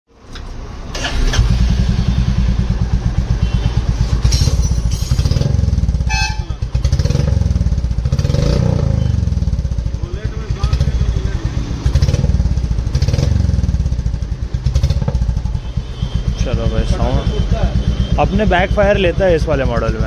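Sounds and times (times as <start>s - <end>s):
motorcycle engine exhaust beat: 1.7s - 20.0s.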